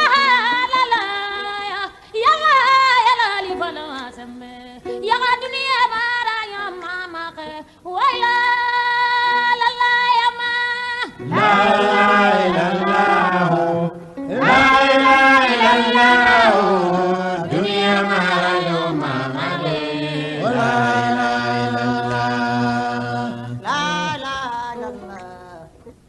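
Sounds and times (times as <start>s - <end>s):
person chanting devotional song: 0.0s - 25.8s.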